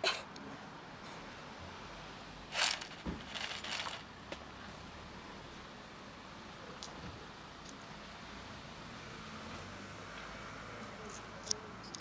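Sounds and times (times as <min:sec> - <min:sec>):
outdoor background hiss and hum: 0:00.0 - 0:12.0.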